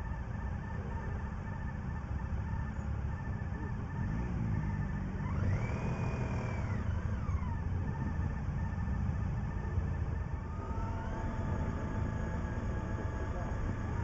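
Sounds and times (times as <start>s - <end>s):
motorcycle engines rumbling: 0.0s - 14.0s.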